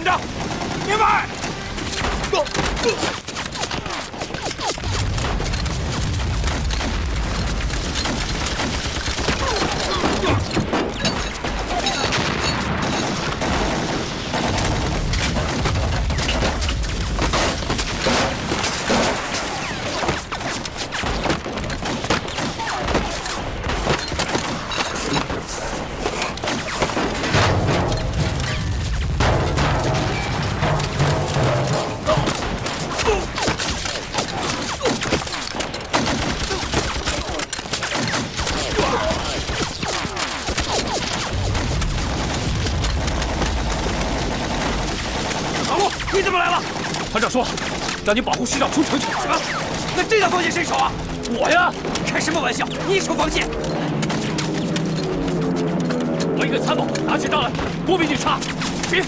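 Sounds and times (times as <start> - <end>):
explosions: 0.0 - 52.4
rapid gunfire: 0.0 - 59.0.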